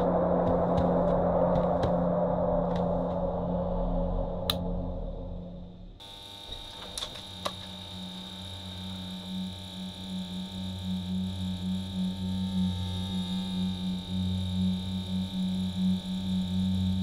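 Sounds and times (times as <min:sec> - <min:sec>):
low humming drone: 0:00.0 - 0:17.0
thin high whine: 0:00.0 - 0:17.0.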